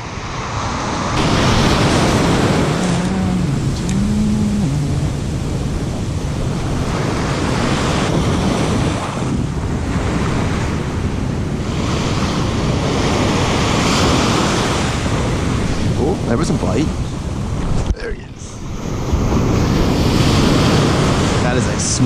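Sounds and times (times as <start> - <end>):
ocean surf breaking on sand: 0.0 - 22.0
wind rumbling on microphone: 0.0 - 22.0.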